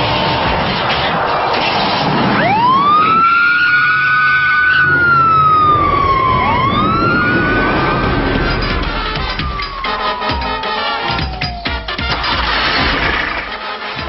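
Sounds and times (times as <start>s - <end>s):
police siren wailing: 2.2s - 14.0s.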